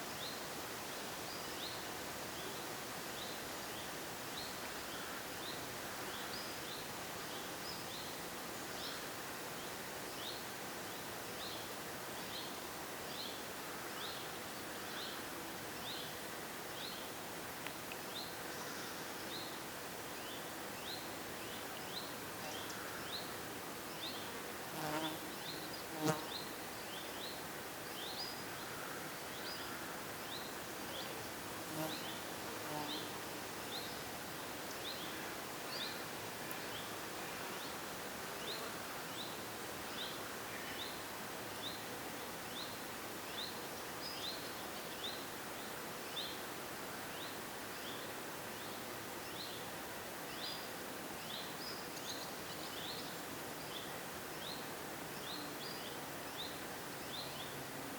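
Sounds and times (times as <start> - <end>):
faint constant hiss: 0.0 - 57.9.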